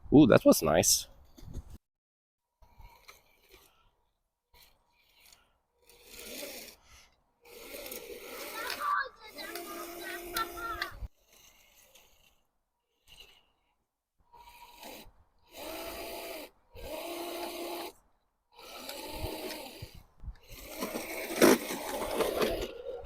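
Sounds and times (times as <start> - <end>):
rc truck motor whining: 2.5 - 23.0.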